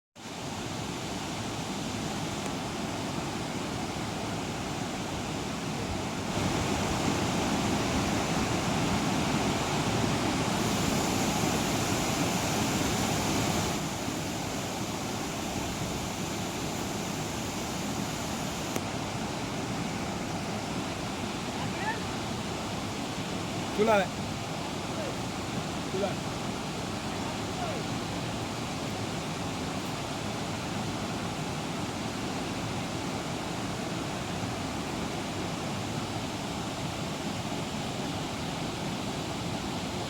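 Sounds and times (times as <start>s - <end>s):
waterfall roaring: 0.3s - 40.0s.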